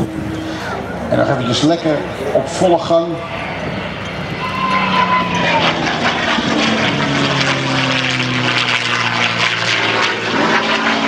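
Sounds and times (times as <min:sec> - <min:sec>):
propeller plane engine howling overhead: 0:00.0 - 0:11.0.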